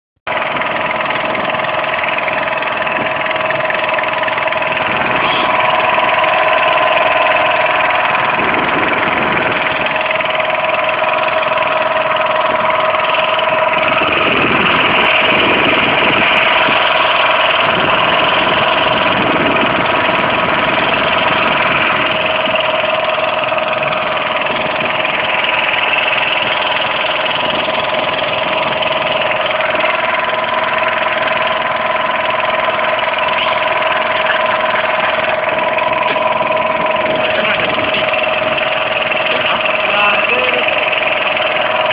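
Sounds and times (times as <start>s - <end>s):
boat motor running: 0.3s - 41.9s
wind and water rushing: 0.4s - 41.9s.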